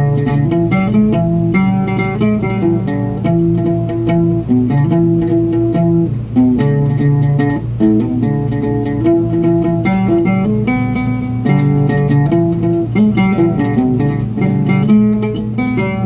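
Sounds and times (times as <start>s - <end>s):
oud playing picked melody: 0.0s - 16.0s.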